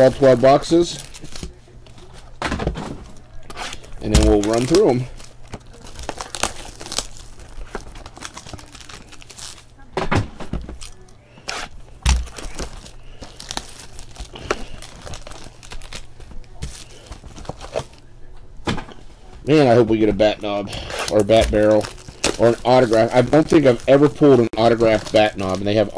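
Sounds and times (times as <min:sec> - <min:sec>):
plastic wrap crinkling: 0:00.0 - 0:02.4, 0:03.0 - 0:09.9, 0:10.5 - 0:18.1, 0:19.5 - 0:25.9.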